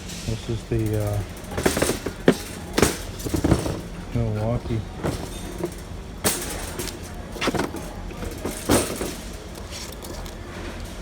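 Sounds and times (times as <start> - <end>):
store background noise: 0.0 - 11.0.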